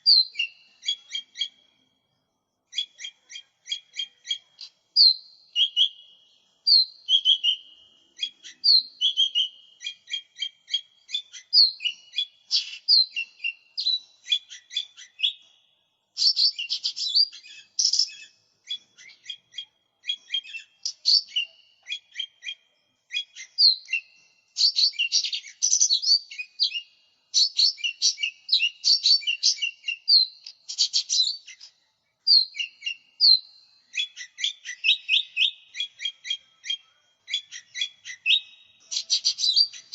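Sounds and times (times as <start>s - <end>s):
small bird singing: 0.0s - 39.9s.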